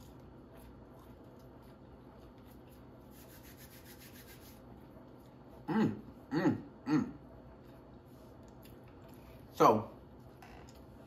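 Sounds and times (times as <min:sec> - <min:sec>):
rustling and crackling while eating: 0:00.0 - 0:06.3, 0:07.2 - 0:11.0.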